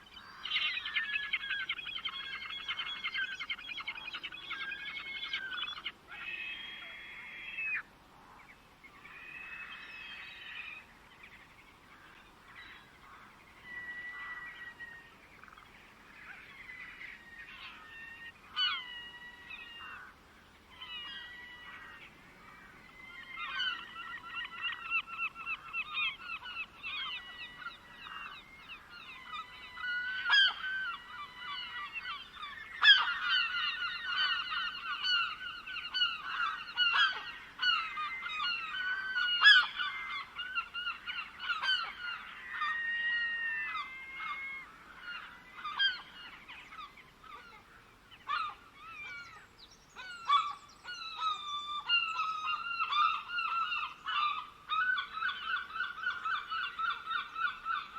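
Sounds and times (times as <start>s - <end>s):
birds calling: 0.0s - 57.9s.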